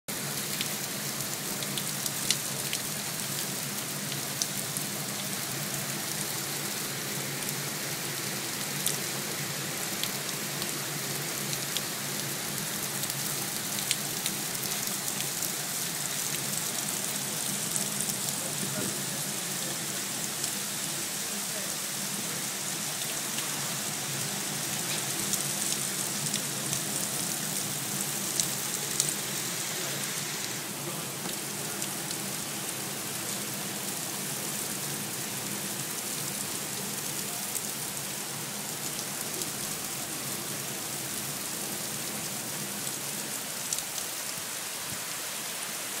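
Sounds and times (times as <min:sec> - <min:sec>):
heavy rain pouring: 0:00.1 - 0:46.0.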